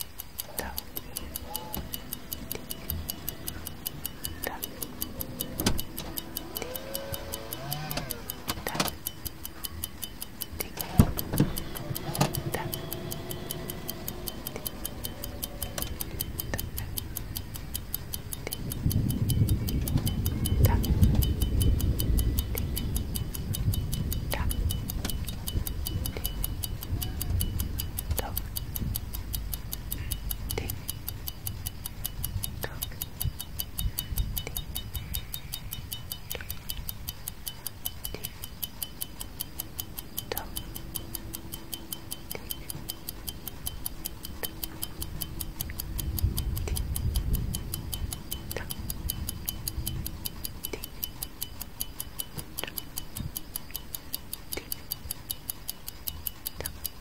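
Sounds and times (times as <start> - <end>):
low rumbling noise: 0.0 - 51.8
clock ticking: 0.0 - 57.0.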